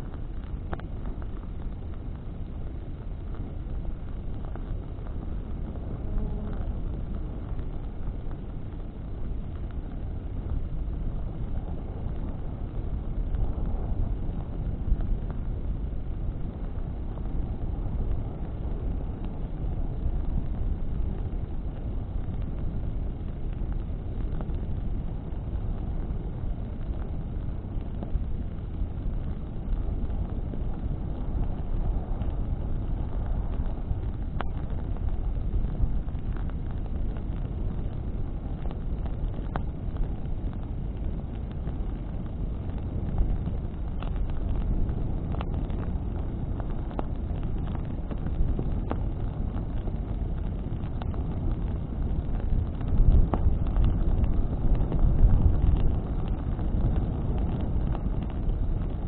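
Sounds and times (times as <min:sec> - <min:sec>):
burning branches crackling: 0:00.0 - 0:59.0
flames rushing: 0:00.0 - 0:59.0
wind on microphone: 0:00.0 - 0:59.0.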